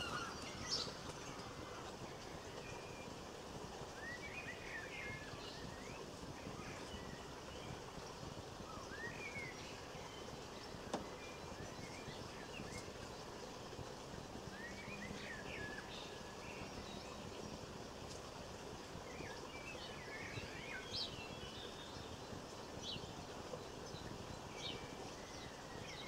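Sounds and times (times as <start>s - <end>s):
outdoor background hiss: 0.0s - 26.0s
small songbird chirping: 0.0s - 26.0s.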